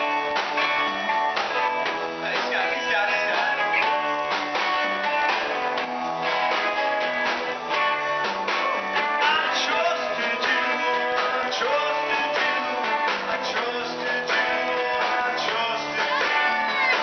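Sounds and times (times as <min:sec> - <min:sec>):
drum kit beat: 0:00.0 - 0:17.0
electric guitars: 0:00.0 - 0:17.0
live band playing: 0:00.0 - 0:17.0.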